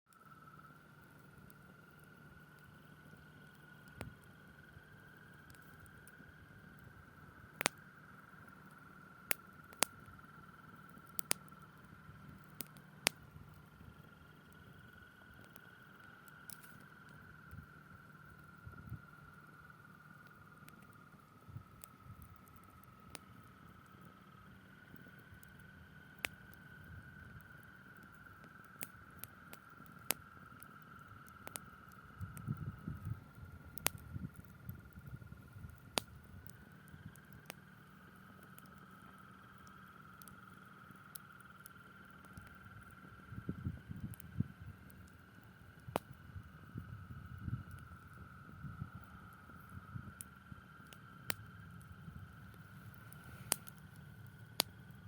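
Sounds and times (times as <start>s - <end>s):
campfire wood popping: 0.2s - 55.0s.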